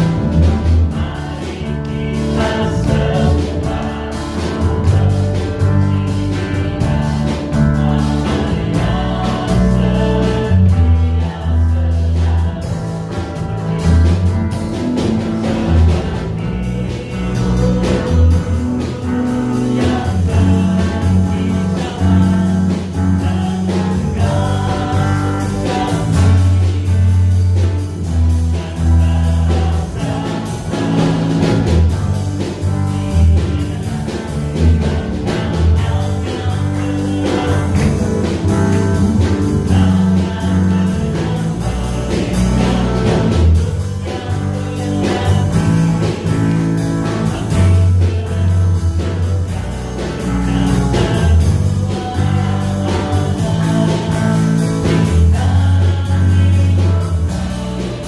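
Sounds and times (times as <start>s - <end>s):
person singing: 0.0s - 14.3s, 15.0s - 58.0s
electric bass guitar: 0.0s - 58.0s.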